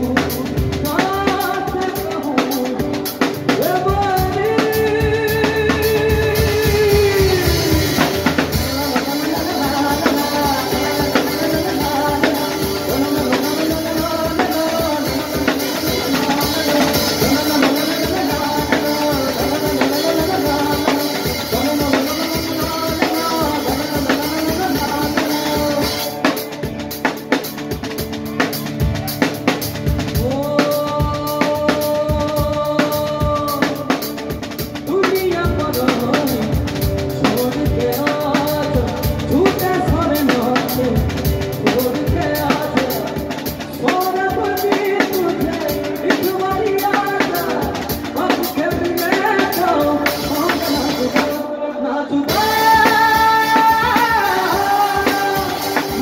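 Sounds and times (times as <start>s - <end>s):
drum kit with cymbal: 0.0s - 51.6s, 52.2s - 56.0s
man singing: 0.0s - 56.0s.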